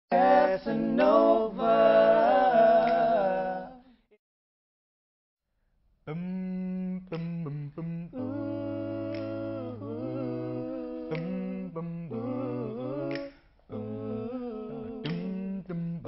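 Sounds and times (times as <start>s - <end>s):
male voices singing a cappella: 0.1s - 4.0s, 6.1s - 16.0s.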